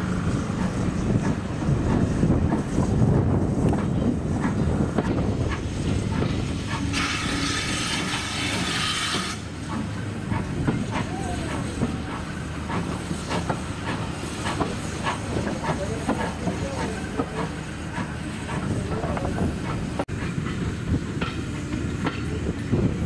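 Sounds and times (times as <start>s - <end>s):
steam hiss: 0.0s - 23.0s
train rolling rumble: 0.0s - 23.0s.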